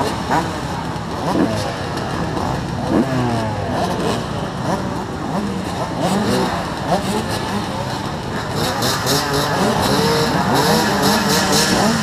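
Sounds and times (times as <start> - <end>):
dirt bikes idling: 0.0 - 12.0
engines revving: 0.0 - 12.0.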